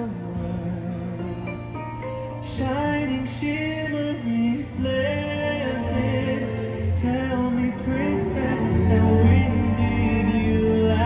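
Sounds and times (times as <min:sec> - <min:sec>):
music with long held notes: 0:00.0 - 0:11.0.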